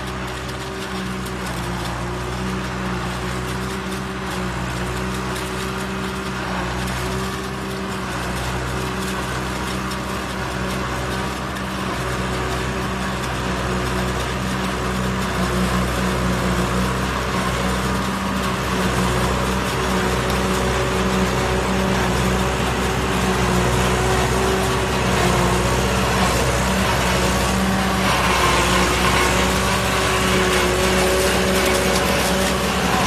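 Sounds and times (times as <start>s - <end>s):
harvester chopping and blowing chaff: 0.0s - 33.0s
tractor engine under load: 0.0s - 33.0s.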